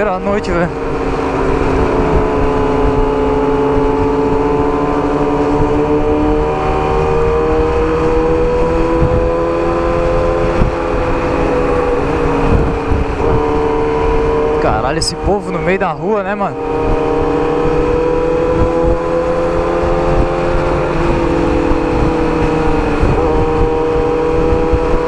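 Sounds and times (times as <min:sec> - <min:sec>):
wind rush: 0:00.0 - 0:25.0.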